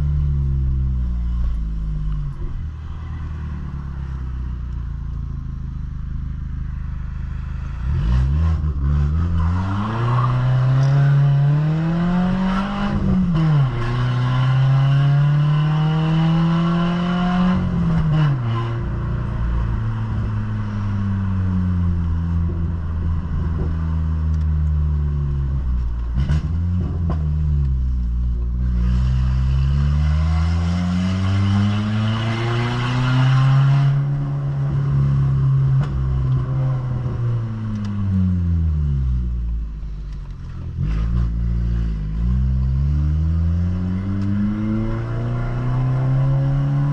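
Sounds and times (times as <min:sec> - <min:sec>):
car engine accelerating: 0:00.0 - 0:46.9.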